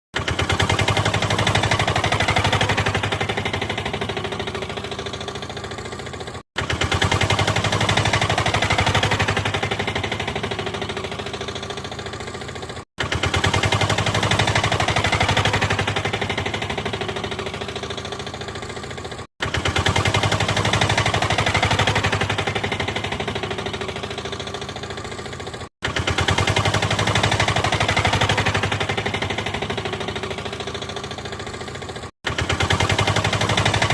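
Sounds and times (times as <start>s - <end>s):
car engine running: 0.2s - 33.9s.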